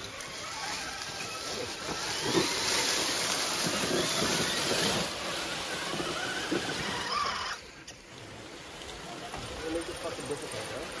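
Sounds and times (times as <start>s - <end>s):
creek water rushing and splashing: 0.0s - 11.0s.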